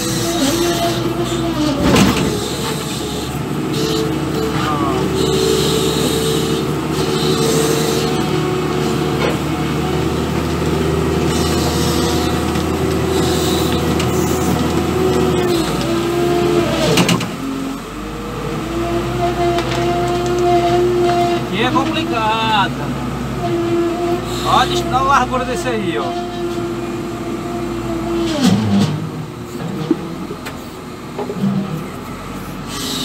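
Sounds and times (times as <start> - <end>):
wheel loader diesel engine: 0.0 - 33.0.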